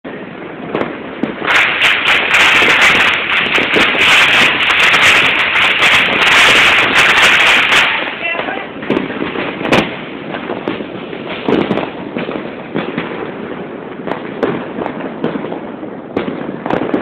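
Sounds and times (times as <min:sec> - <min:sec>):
firecrackers crackling: 0:00.1 - 0:17.0.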